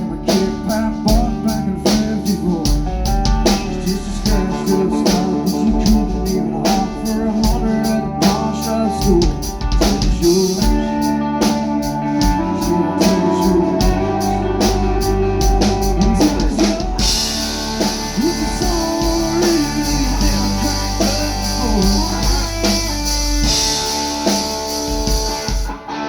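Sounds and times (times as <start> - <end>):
drum kit and cymbals: 0.0 - 25.9
bass: 0.0 - 26.0
electric guitar lead: 0.0 - 26.0.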